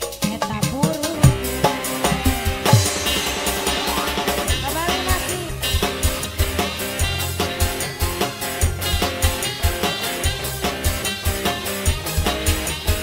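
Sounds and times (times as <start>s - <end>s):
drums playing steady beat: 0.0s - 13.0s
lead melody with sliding notes: 0.0s - 13.0s.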